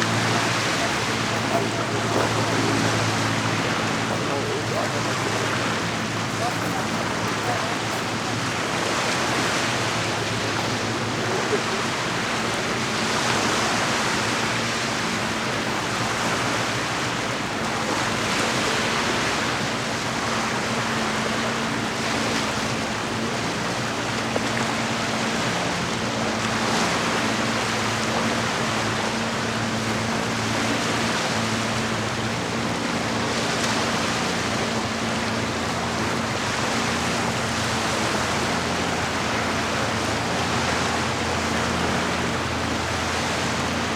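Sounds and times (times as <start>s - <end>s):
lake water washing against shore: 0.0s - 43.9s.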